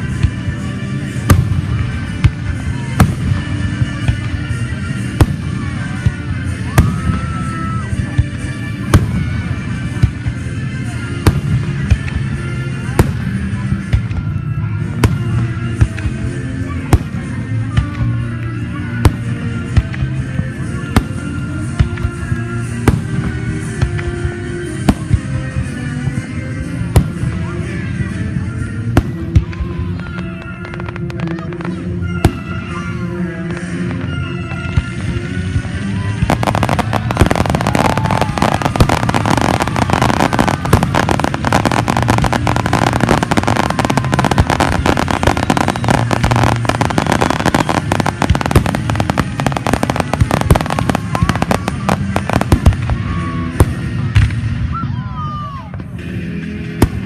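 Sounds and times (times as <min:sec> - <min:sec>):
fireworks bangs: 0:00.0 - 0:27.6, 0:28.4 - 0:54.6
rumble of firework bursts: 0:00.0 - 0:54.8
music playing: 0:00.0 - 0:57.0.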